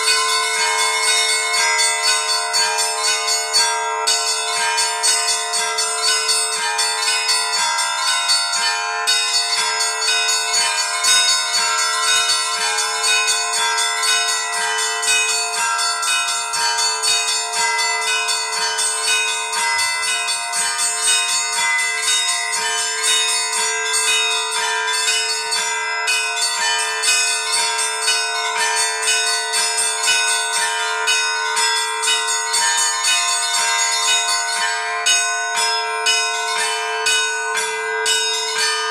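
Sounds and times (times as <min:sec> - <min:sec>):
rapid small church bell strikes: 0:00.0 - 0:38.9.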